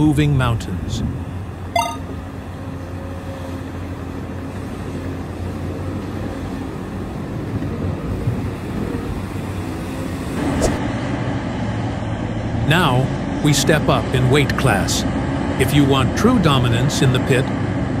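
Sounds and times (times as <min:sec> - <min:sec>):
excavator diesel drone: 0:00.0 - 0:18.0.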